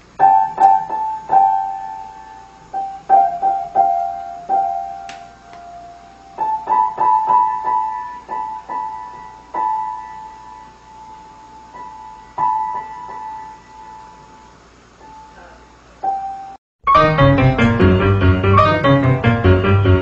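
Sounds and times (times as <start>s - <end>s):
piano notes: 0.0s - 20.0s.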